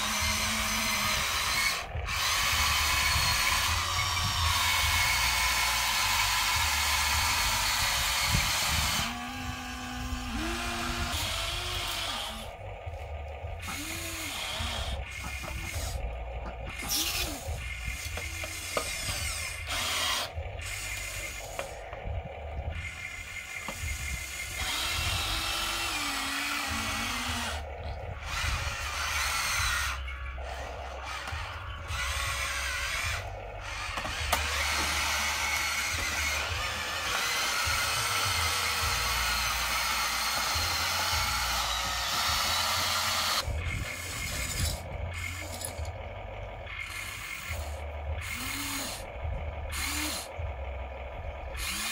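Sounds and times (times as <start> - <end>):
toy excavator motors whirring: 0.0 - 51.9.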